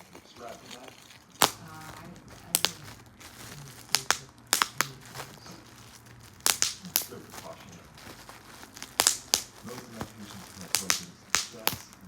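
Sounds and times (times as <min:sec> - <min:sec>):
bubble wrap popping: 0:00.0 - 0:12.0
plastic crinkling: 0:00.0 - 0:12.0.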